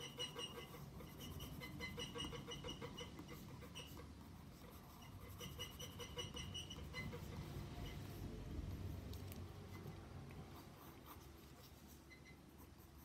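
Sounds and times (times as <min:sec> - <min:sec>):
pencil scratching on paper: 0:00.0 - 0:08.3, 0:09.8 - 0:13.0.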